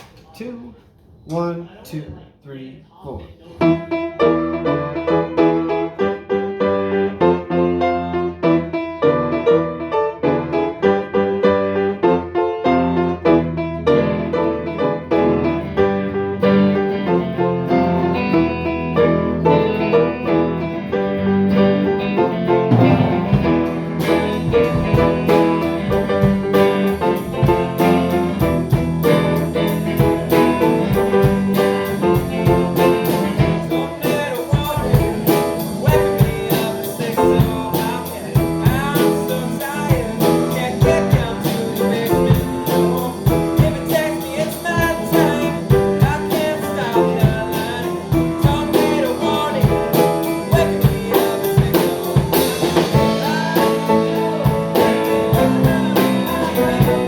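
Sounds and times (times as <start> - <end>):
band playing fast song: 3.9 - 57.0.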